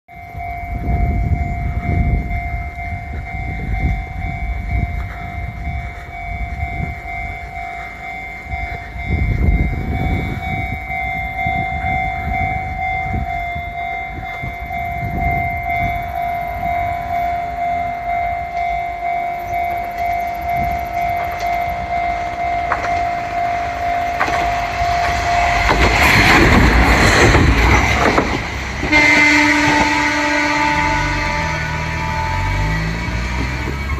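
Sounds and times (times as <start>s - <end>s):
diesel railcar passing: 0.1s - 33.9s
level crossing warning bell: 0.1s - 33.9s.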